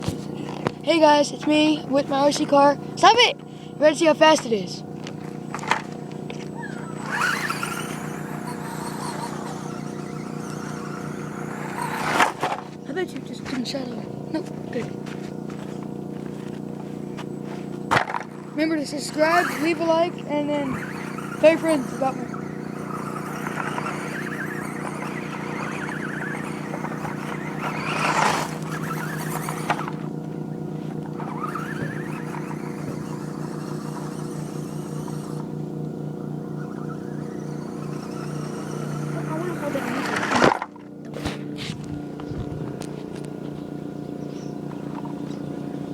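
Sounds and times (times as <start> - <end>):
rc car motor whine: 0.0 - 45.9
steady low hum: 0.0 - 45.9.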